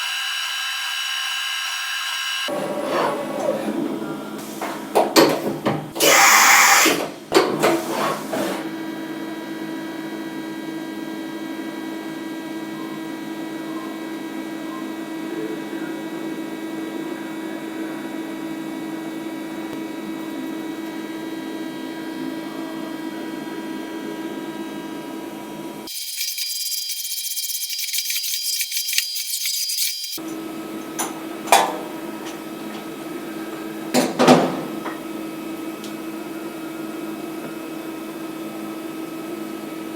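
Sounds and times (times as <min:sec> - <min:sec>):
milling machine humming: 0:00.0 - 0:39.8.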